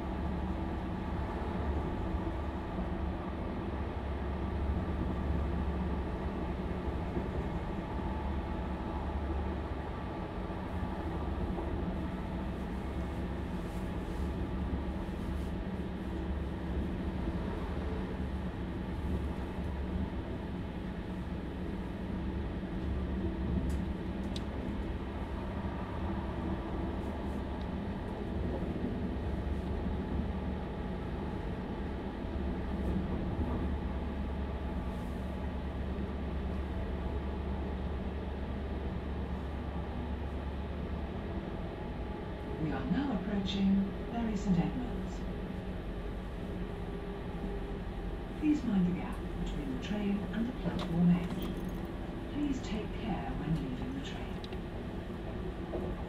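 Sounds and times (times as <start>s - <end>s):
train engine low drone: 0.0s - 56.0s
train running noise: 0.0s - 56.0s.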